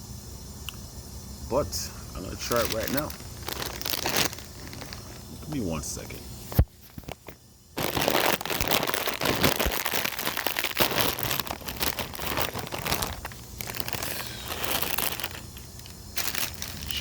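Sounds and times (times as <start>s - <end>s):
plastic chip bag crinkling: 2.2s - 5.6s, 6.7s - 17.0s.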